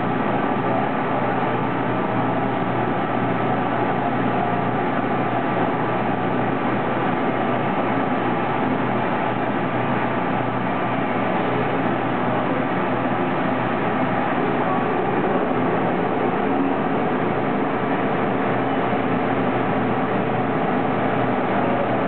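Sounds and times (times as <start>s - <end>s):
circulation pump running: 0.0s - 22.0s.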